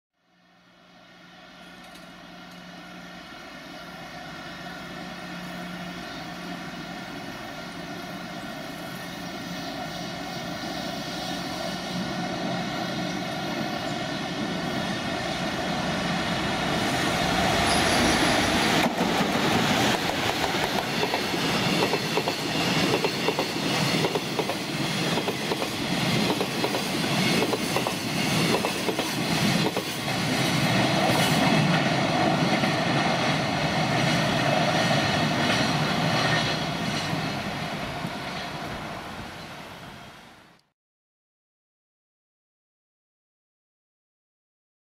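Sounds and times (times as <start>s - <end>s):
electric locomotive whine: 0.2s - 40.7s.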